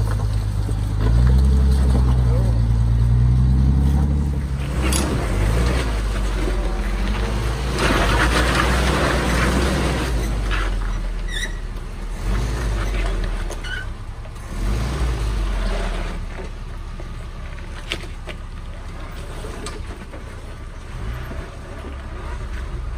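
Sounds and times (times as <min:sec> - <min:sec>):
jeep engine running: 0:00.0 - 0:22.9
tyres in mud: 0:00.0 - 0:22.9.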